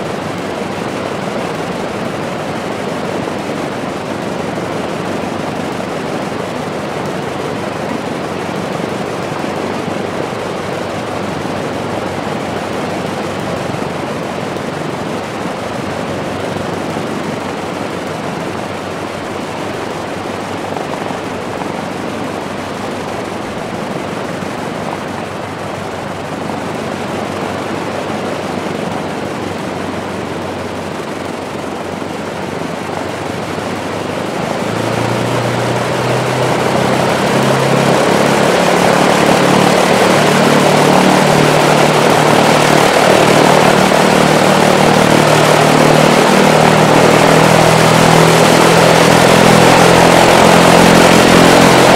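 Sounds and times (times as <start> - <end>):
aircraft engines droning: 0.0 - 51.9.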